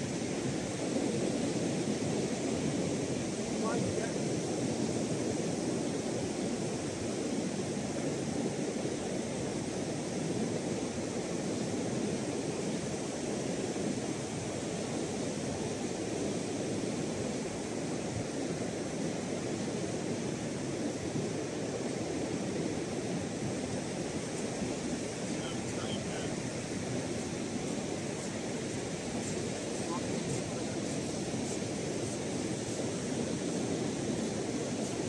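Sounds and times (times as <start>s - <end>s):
sea surf breaking on beach: 0.0s - 35.0s.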